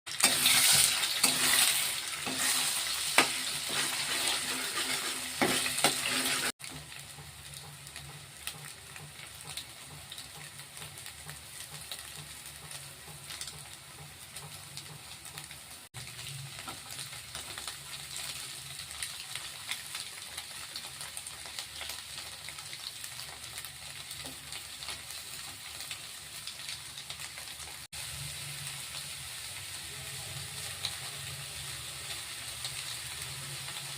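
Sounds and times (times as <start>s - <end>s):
rice sizzling in a pan: 0.1s - 33.9s.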